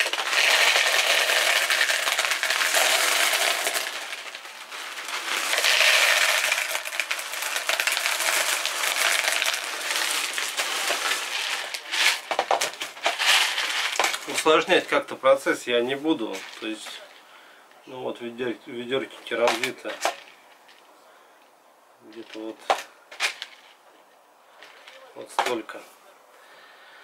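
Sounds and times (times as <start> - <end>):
clay pebbles rattling into pots: 0.0 - 17.3, 18.9 - 20.9, 22.0 - 23.8, 24.6 - 25.8.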